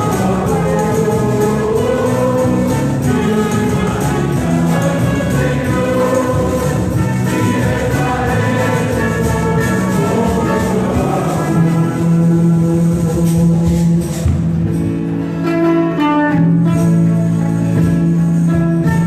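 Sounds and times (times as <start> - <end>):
instrumental music: 0.0 - 19.0.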